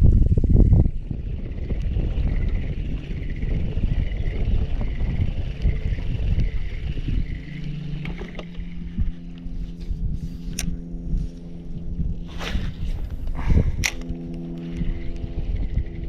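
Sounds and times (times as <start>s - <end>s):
steady motor hum: 0.0s - 16.0s
wind buffeting microphone: 0.0s - 16.0s.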